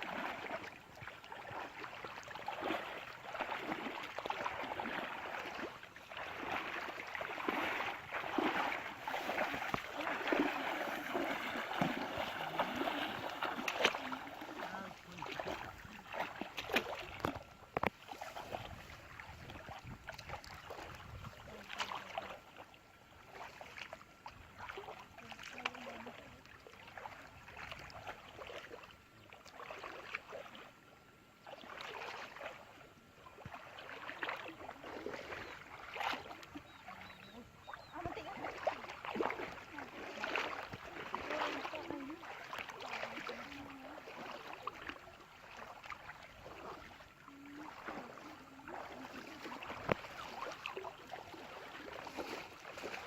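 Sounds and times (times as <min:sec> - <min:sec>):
water splashing and sloshing: 0:00.0 - 0:53.0.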